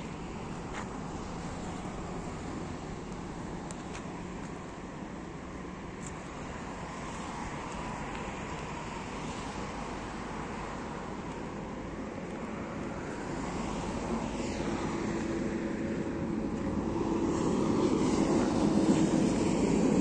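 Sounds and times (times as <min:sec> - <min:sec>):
heavy vehicle engine drone: 0:00.0 - 0:20.0.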